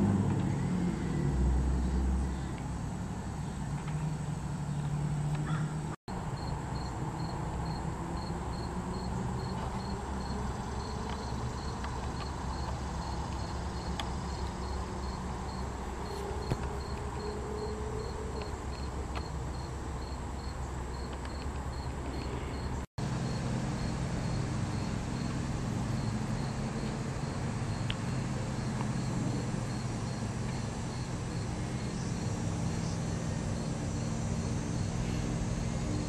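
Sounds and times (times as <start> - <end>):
insect chirping: 0.4 - 36.0.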